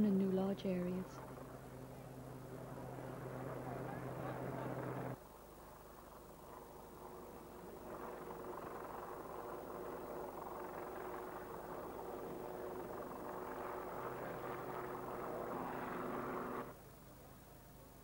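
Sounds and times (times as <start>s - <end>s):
engine drone: 0.0s - 16.8s.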